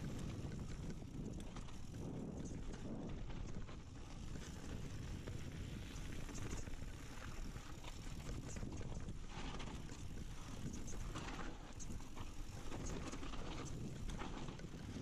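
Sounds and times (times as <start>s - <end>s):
wind over microphone: 0.0s - 15.0s.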